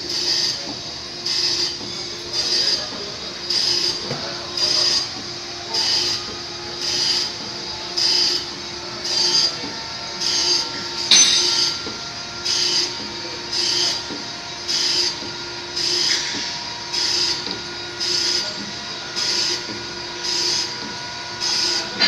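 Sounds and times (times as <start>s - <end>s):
compressor hissing with squeal: 0.0s - 22.0s.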